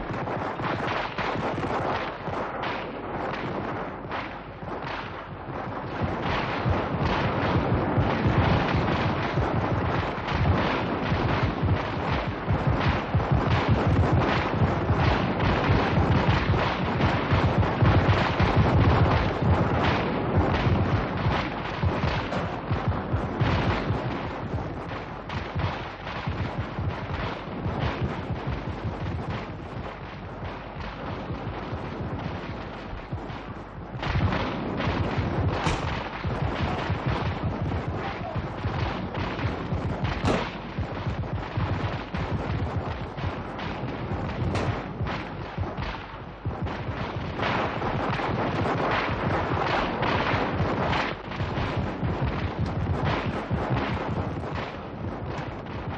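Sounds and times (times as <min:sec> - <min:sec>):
gunfire crackling: 0:00.0 - 0:55.9.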